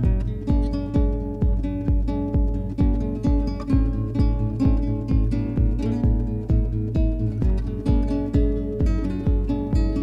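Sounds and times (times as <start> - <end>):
plucked strings music: 0.0 - 10.0
steady low beat: 0.0 - 10.0.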